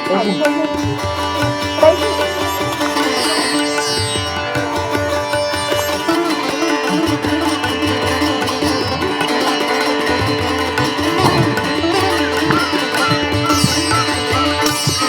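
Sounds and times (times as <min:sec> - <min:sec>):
plucked sitar-like strings: 0:00.0 - 0:15.0
tabla-like drumming: 0:00.0 - 0:15.0.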